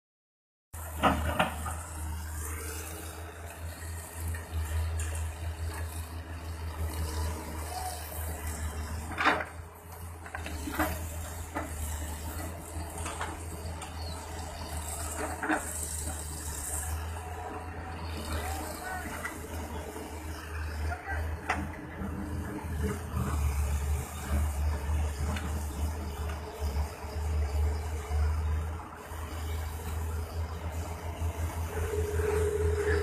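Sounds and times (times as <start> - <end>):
diesel engine rumble: 0.8 - 33.0.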